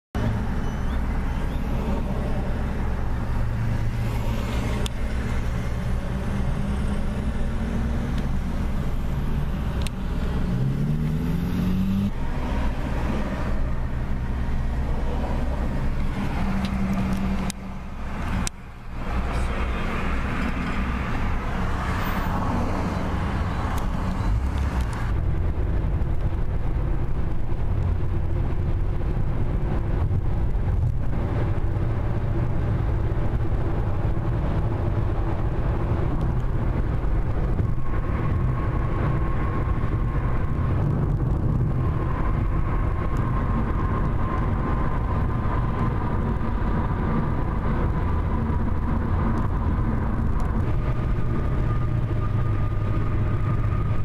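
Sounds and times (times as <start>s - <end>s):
car engine accelerating: 0.2s - 54.0s
tyre and road noise: 0.2s - 54.0s.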